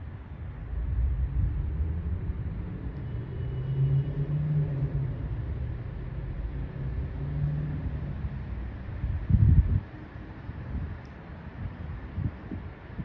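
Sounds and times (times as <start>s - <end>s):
distant engines rumbling: 0.0s - 13.0s.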